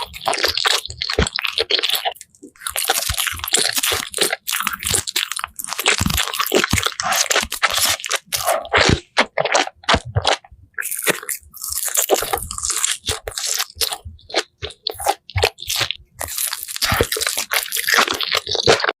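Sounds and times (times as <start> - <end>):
crunchy food chewing: 0.0 - 19.0.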